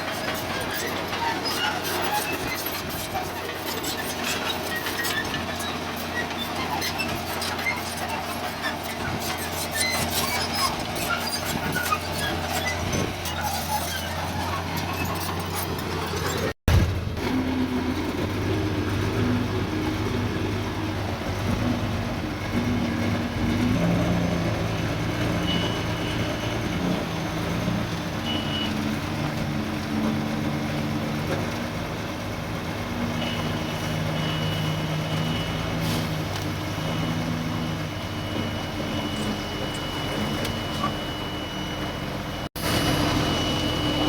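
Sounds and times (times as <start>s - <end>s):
heavy machinery diesel engines: 0.0s - 44.0s.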